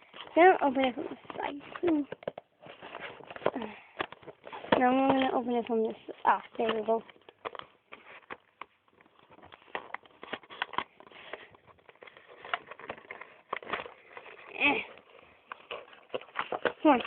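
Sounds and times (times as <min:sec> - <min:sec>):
cardboard box crackling: 0:00.0 - 0:17.0.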